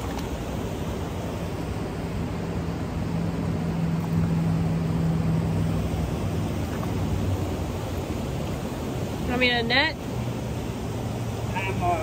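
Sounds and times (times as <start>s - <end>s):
low steady hum: 0.0s - 12.0s
river water rushing: 0.0s - 12.0s.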